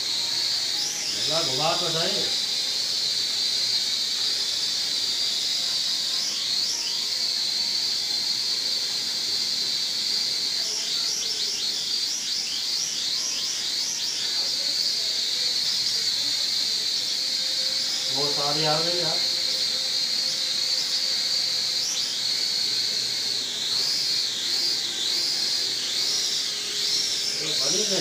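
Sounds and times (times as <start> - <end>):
drone motors whining: 0.0 - 28.0.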